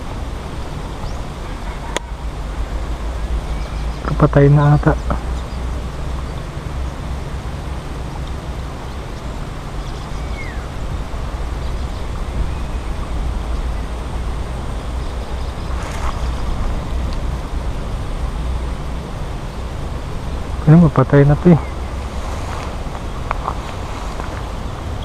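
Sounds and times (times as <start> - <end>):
wind buffeting microphone: 4.8 - 25.0.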